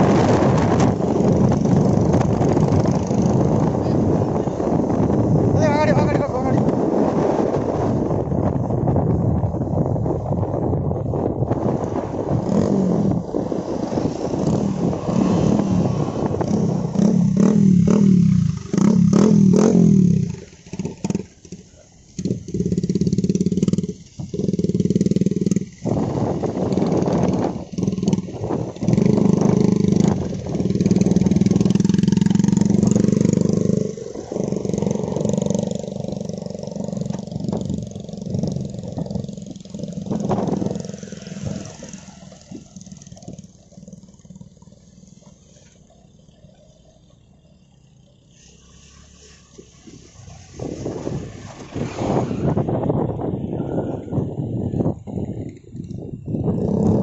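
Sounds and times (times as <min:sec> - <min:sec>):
motorcycles passing by: 0:00.0 - 0:57.0.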